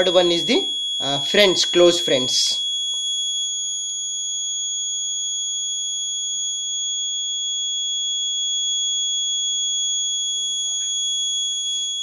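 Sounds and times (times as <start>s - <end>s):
high-pitched alarm buzzer tone: 0.0s - 12.0s.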